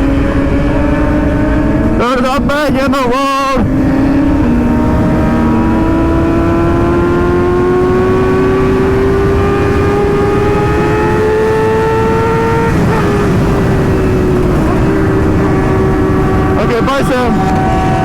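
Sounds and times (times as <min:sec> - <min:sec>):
motorcycle engine revving: 0:00.0 - 0:18.0
wind rush on microphone: 0:00.0 - 0:18.0.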